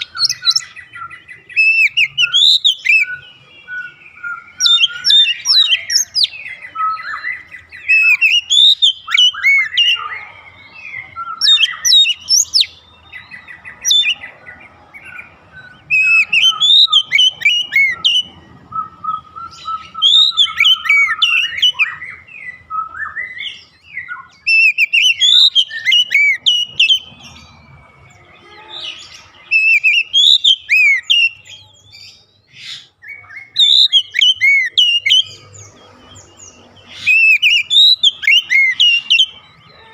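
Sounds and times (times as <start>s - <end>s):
magpie-robin whistled song: 0.0s - 39.9s
soft bird twittering: 0.0s - 39.9s.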